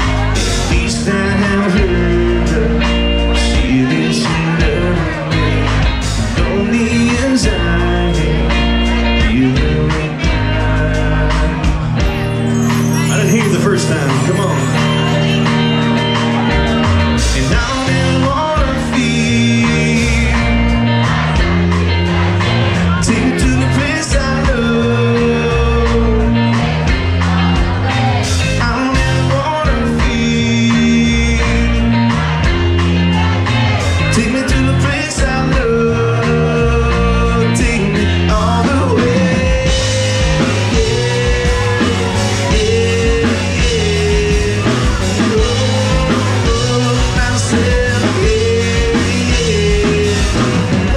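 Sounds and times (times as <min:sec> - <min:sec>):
electric guitars: 0:00.0 - 0:50.9
live rock band playing: 0:00.0 - 0:50.9.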